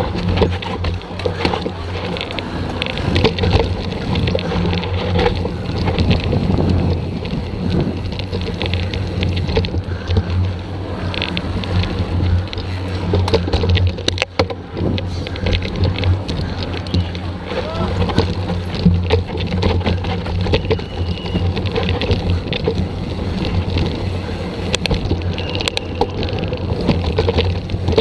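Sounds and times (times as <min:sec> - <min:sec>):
bike chain and frame rattling: 0:00.0 - 0:28.0
tyres crunching over dirt: 0:00.0 - 0:28.0
wind on microphone: 0:00.0 - 0:28.0.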